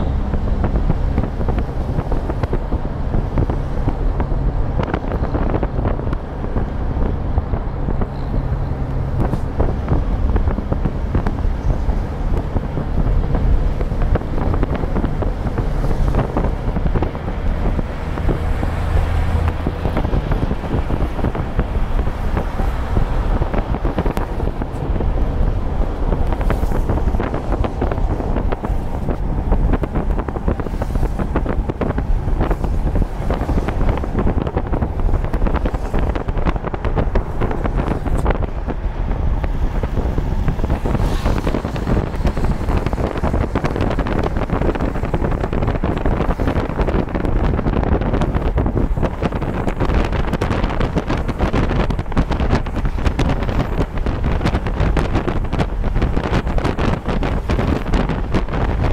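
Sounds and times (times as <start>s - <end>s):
low engine rumble: 0.0s - 58.9s
wind and road noise: 0.0s - 58.9s.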